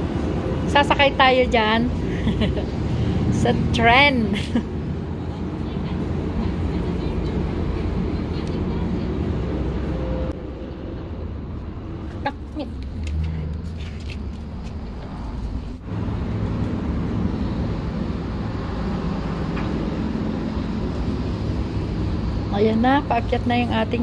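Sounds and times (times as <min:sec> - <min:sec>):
machinery low hum: 0:00.0 - 0:24.0.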